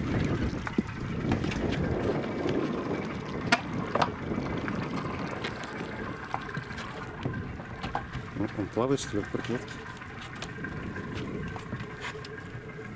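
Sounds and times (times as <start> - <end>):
water lapping against boat hull: 0.0 - 12.9
wind on microphone: 0.0 - 12.9.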